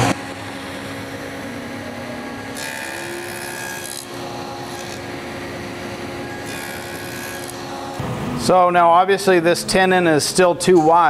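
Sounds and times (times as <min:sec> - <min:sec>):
table saw cutting wood: 0:00.0 - 0:09.8.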